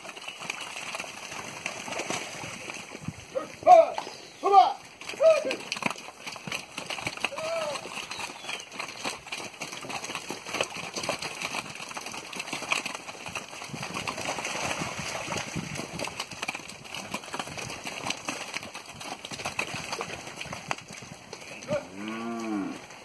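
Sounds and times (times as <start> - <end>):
hooves running on muddy ground: 0.0 - 23.0.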